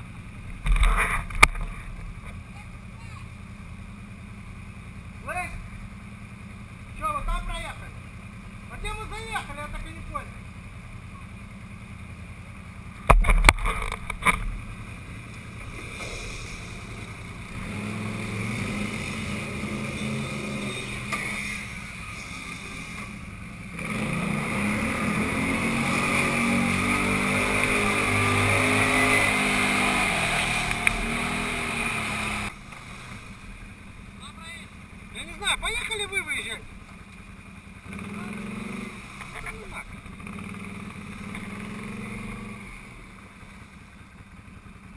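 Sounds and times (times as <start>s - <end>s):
quad engine running: 0.0s - 44.9s.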